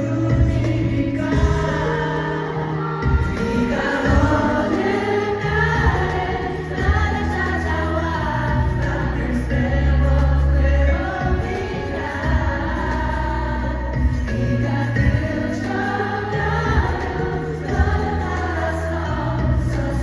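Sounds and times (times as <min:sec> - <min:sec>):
backing track with deep bass: 0:00.0 - 0:20.0
person singing a pop ballad: 0:00.0 - 0:20.0.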